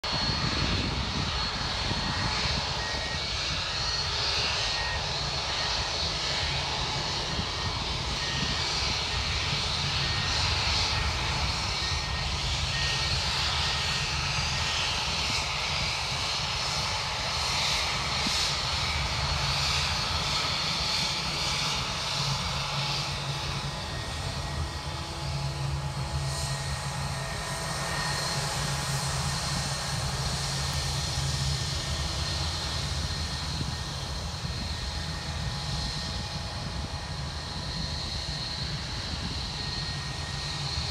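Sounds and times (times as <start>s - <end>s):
jet engines whining at low power: 0.0s - 40.9s.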